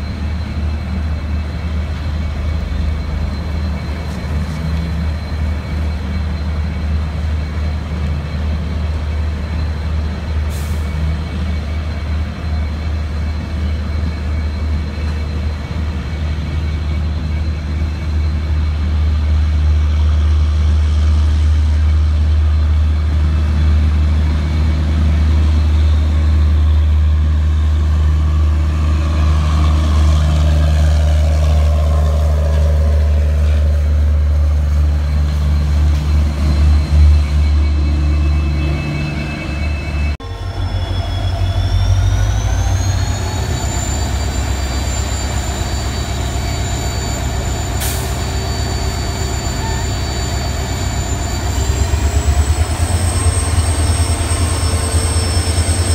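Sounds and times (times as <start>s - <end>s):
locomotive humming: 0.0s - 55.9s
train rumbling and rattling: 0.0s - 55.9s.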